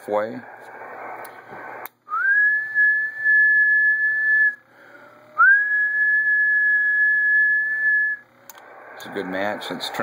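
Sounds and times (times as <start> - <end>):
radio high whistle-like tone: 0.4 - 10.0.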